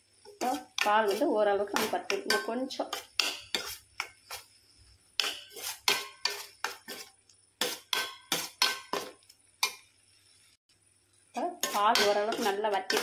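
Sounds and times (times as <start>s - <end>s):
metal spatula scraping a pan: 0.2s - 10.4s, 11.5s - 13.0s.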